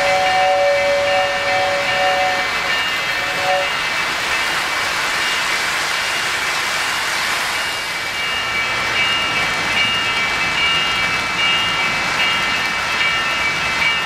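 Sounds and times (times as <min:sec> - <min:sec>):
model train wheels and motors: 0:00.0 - 0:14.0.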